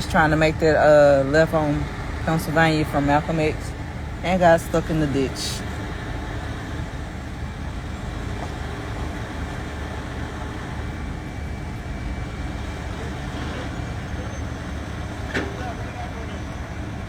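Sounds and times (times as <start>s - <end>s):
heavy vehicles idling: 0.0s - 17.0s
passing street traffic: 0.0s - 17.0s.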